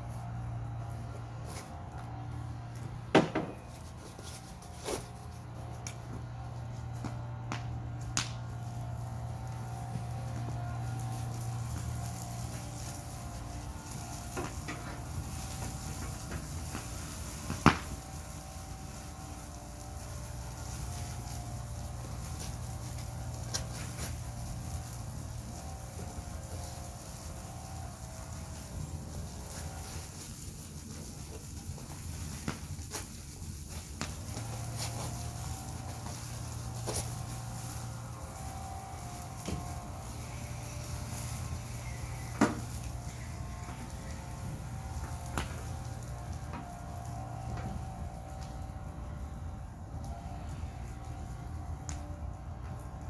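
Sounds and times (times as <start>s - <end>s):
steady low hum: 0.0s - 53.0s
wood fire crackling: 0.0s - 53.0s
fire popping: 0.8s - 53.0s.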